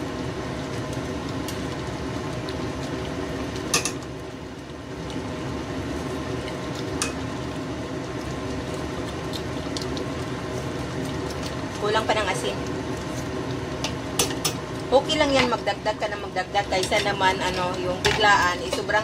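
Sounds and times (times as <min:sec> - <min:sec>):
porridge simmering: 0:00.0 - 0:19.0
steady hum: 0:00.0 - 0:19.0.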